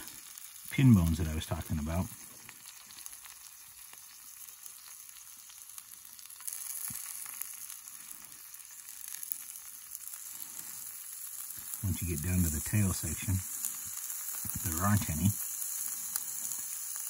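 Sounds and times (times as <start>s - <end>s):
fish sizzling in a skillet: 0.0s - 17.0s.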